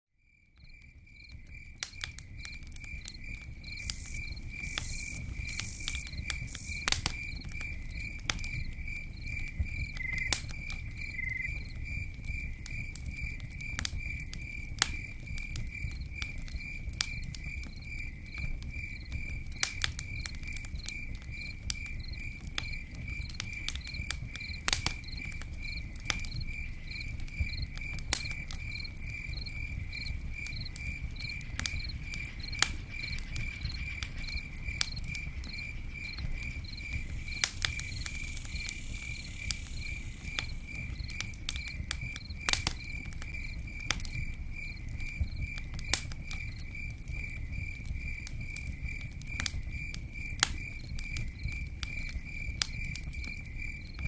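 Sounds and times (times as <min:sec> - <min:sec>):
campfire crackling and popping: 0:00.2 - 0:54.0
cricket chirping: 0:00.2 - 0:54.0.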